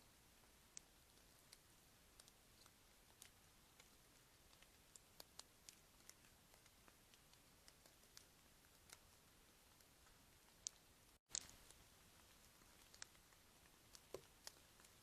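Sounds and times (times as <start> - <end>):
faint ticks and clicks: 0.0 - 15.0.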